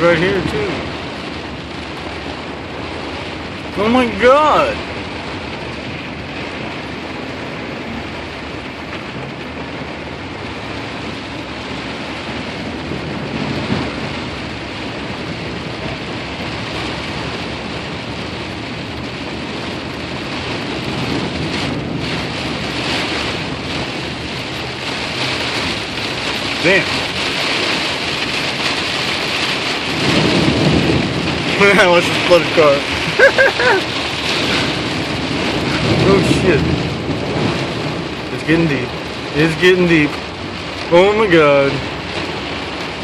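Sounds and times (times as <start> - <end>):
tyres pushing through water: 0.0 - 43.0.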